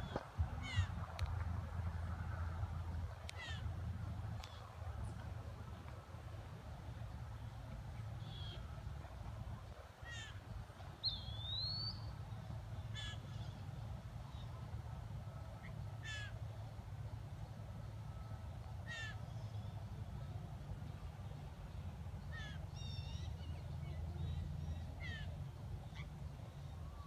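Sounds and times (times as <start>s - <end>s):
low steady rumble: 0.0s - 27.0s.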